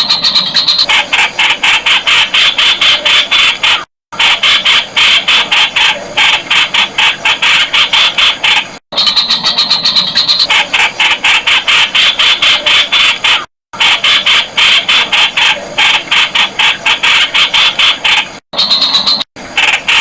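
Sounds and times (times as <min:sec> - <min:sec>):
bird calling with harsh notes: 0:00.0 - 0:20.0.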